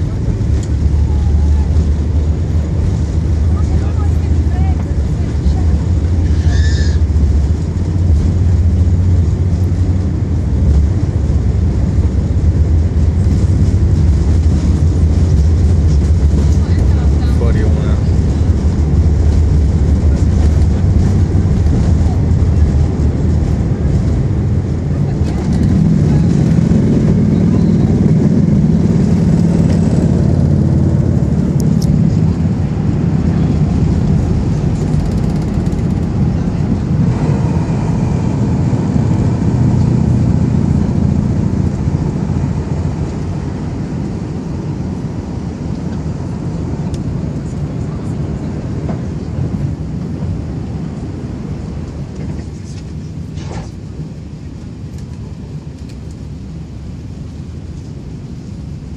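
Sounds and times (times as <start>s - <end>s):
wheels running on runway: 0.0s - 56.3s
airliner engines rumbling: 0.0s - 58.9s.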